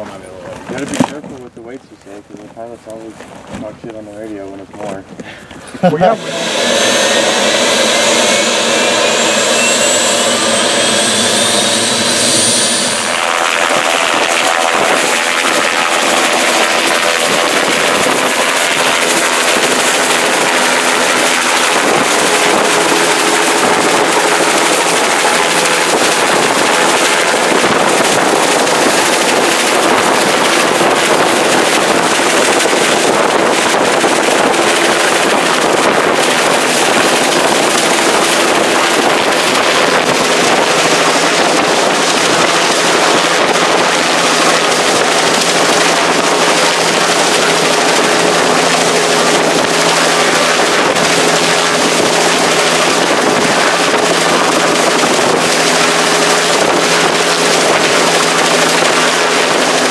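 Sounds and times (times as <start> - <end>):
helicopter rotor chop: 0.0 - 59.9
helicopter turbine whine: 0.0 - 59.9.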